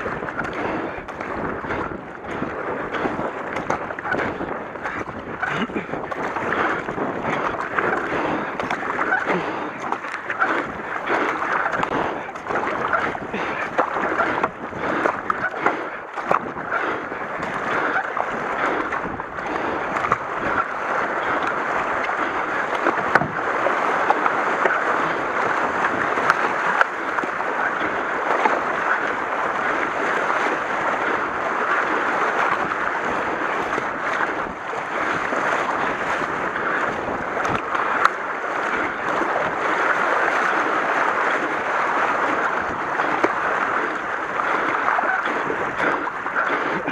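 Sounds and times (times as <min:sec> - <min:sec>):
paddle blades splashing: 0:00.0 - 0:46.9
river water rushing over riffles: 0:00.0 - 0:46.9.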